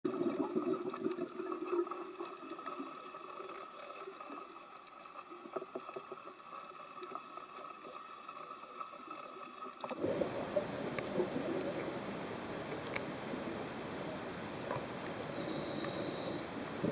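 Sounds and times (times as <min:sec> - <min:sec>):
underwater hum: 0:00.1 - 0:16.9
faint crackling clicks: 0:01.8 - 0:16.9.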